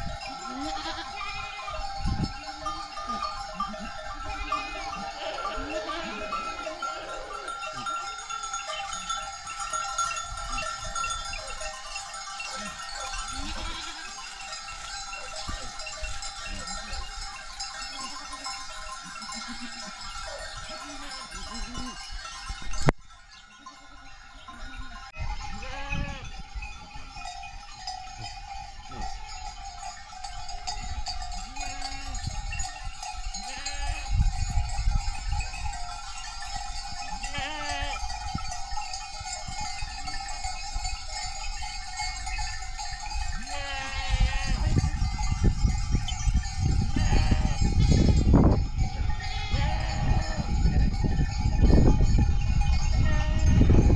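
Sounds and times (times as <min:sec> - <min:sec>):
livestock bells ringing: 0:00.0 - 0:53.9
sheep and goats bleating: 0:00.0 - 0:53.9.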